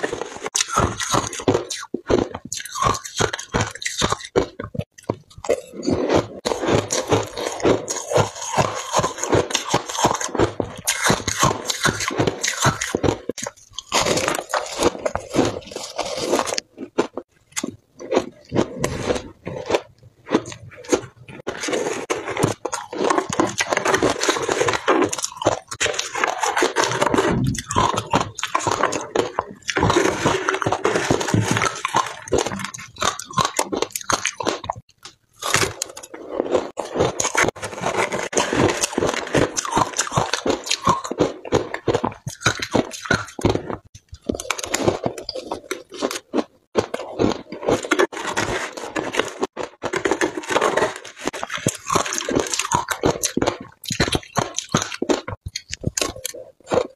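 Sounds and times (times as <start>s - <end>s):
crunching shaved ice: 5.4s - 34.7s, 35.4s - 56.9s.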